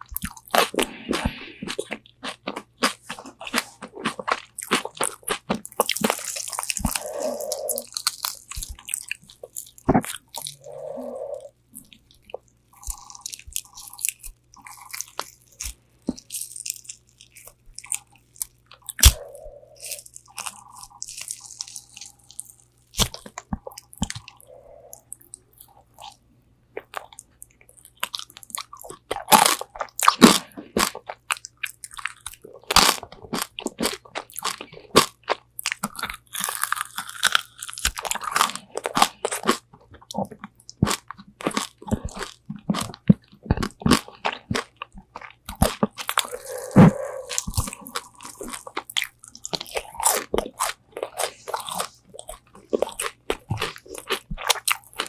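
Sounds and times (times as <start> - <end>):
crunching fried chicken: 0.0 - 26.2, 26.8 - 55.0
quiet chewing: 0.0 - 55.0.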